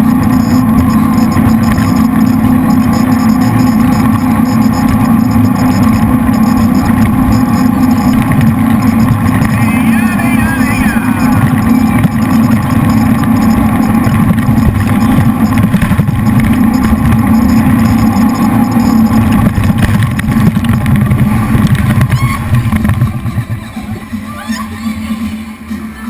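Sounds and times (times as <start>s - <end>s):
boat engines droning: 0.0s - 26.0s.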